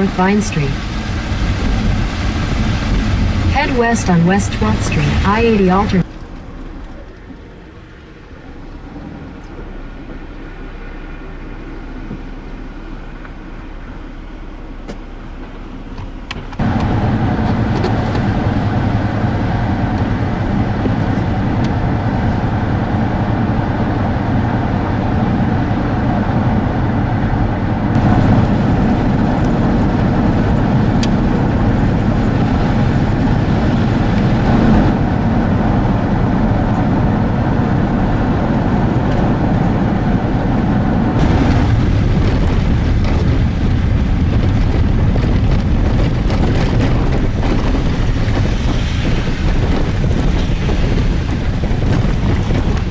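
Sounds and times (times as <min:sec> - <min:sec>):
car engine and road noise: 0:00.0 - 0:52.9.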